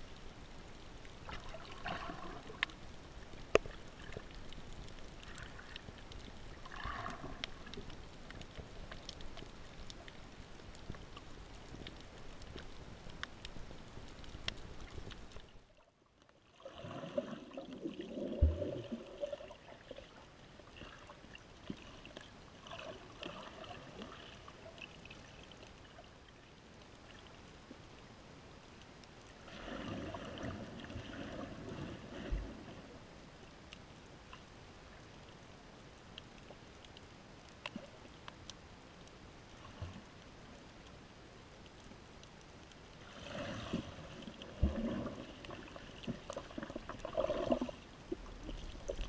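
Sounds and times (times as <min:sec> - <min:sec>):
water sloshing and bubbling: 0:00.0 - 0:49.0.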